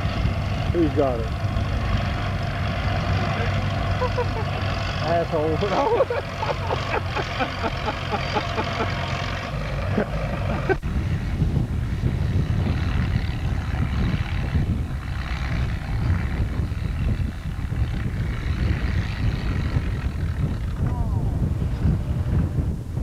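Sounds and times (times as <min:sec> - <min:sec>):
tractor engines rumbling: 0:00.0 - 0:23.0.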